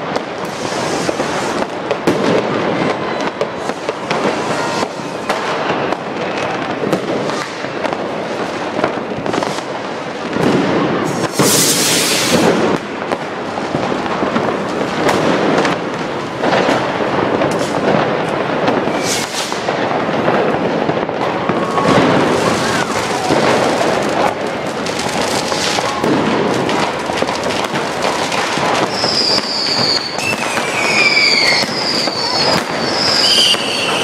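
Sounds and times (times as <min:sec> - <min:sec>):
firecrackers banging: 0:00.0 - 0:34.0
fireworks bursting: 0:00.0 - 0:34.0.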